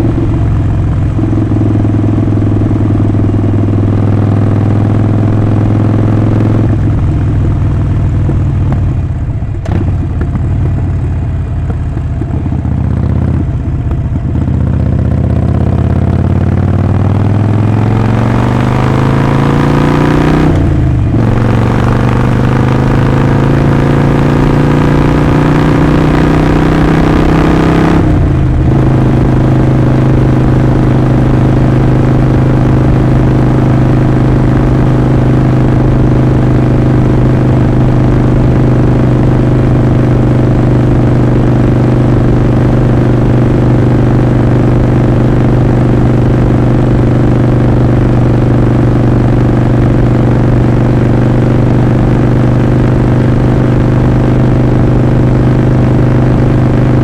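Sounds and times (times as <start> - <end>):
motorcycle engine and exhaust: 0.0 - 57.0.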